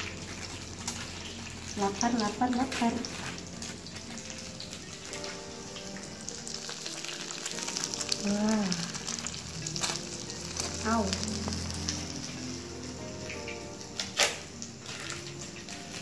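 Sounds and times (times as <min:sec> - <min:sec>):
burger patties sizzling in oil: 0:00.0 - 0:16.0.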